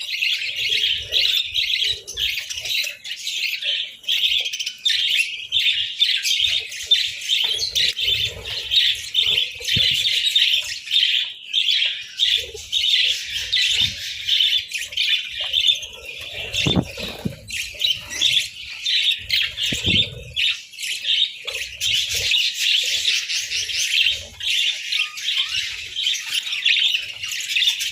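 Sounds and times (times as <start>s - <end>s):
budgerigars chirping and chattering: 0.0s - 27.9s.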